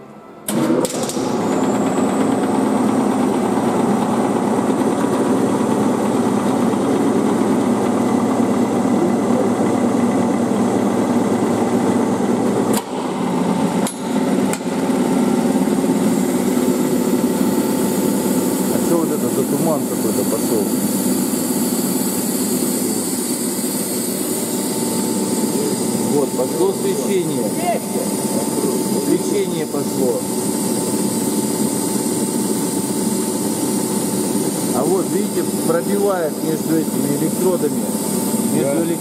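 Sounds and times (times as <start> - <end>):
vacuum pump rattling drone: 0.5 - 39.0.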